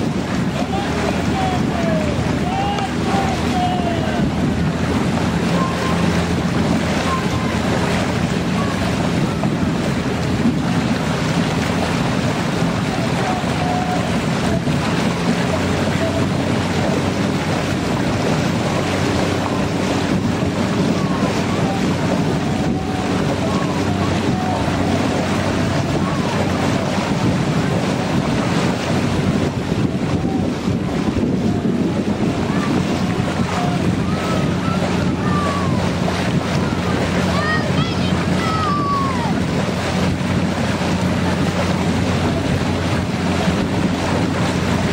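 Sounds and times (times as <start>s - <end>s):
boat engine droning: 0.0s - 44.9s
water rushing past hull: 0.0s - 44.9s
wind buffeting microphone: 0.0s - 44.9s.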